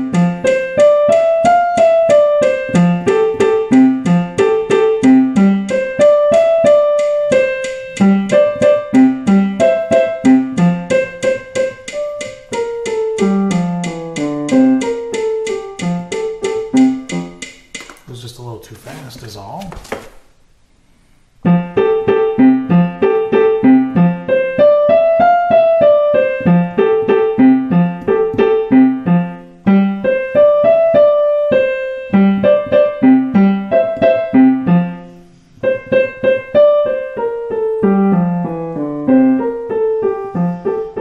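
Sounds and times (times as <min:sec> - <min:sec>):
digital piano playing: 0:00.0 - 0:18.0, 0:21.4 - 0:41.0.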